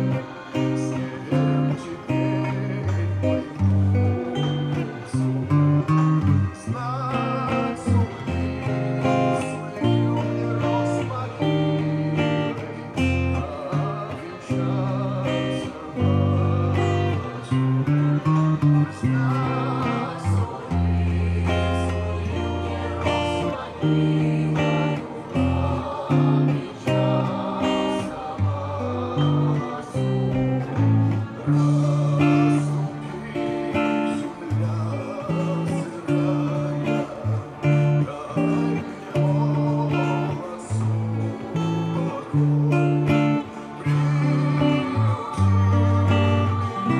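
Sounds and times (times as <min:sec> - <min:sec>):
electric guitar playing: 0:00.0 - 0:46.9.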